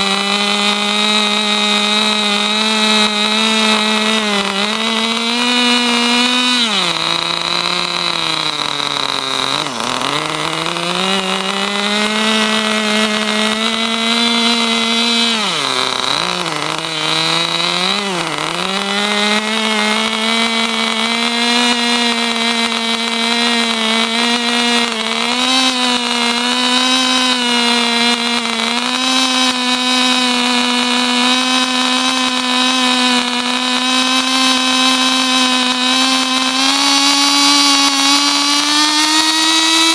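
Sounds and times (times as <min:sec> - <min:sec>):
model engine high-pitched buzz: 0:00.0 - 0:39.9.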